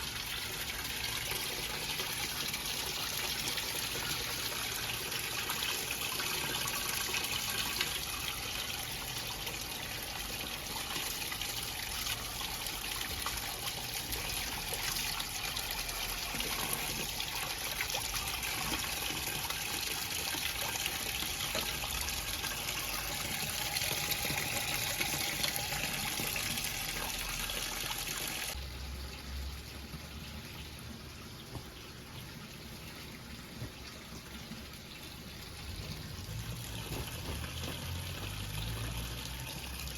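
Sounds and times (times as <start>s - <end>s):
washing machine filling with water: 0.0s - 39.9s.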